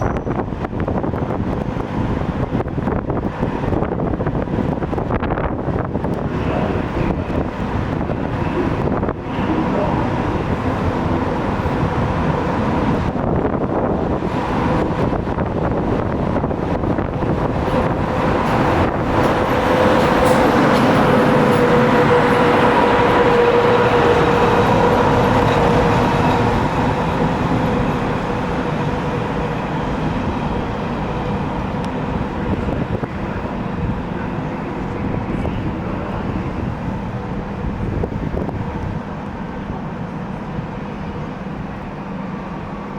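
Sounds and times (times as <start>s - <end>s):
train wheels rolling on rails: 0.0s - 42.9s.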